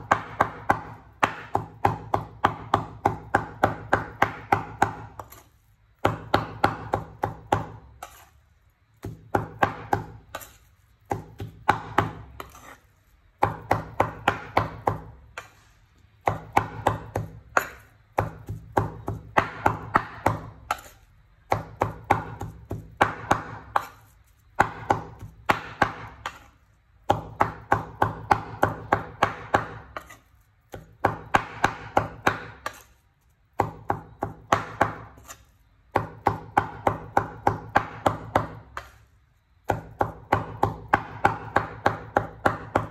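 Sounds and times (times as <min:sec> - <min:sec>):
cleaver chopping on wooden board: 0:00.0 - 0:05.4, 0:06.0 - 0:08.2, 0:09.0 - 0:12.8, 0:13.4 - 0:15.5, 0:16.2 - 0:20.9, 0:21.5 - 0:24.0, 0:24.6 - 0:26.5, 0:27.1 - 0:32.9, 0:33.6 - 0:39.0, 0:39.7 - 0:42.9.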